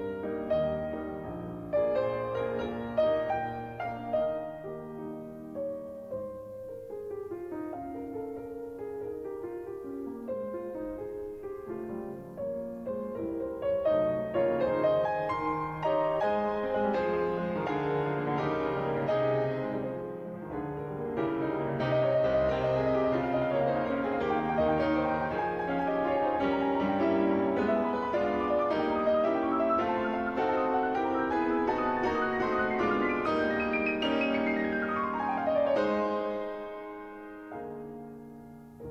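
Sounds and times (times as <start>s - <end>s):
piano background music: 0.0s - 38.9s.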